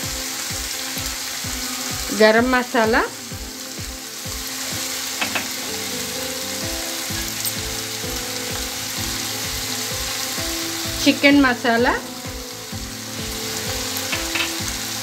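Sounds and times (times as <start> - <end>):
chicken frying in oil: 0.0 - 15.0
music with steady beat: 0.0 - 15.0.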